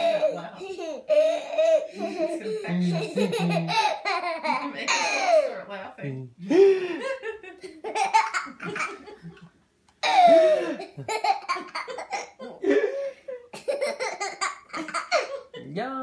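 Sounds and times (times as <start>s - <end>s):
child laughing: 0.0s - 5.6s, 7.2s - 9.4s, 10.0s - 15.6s.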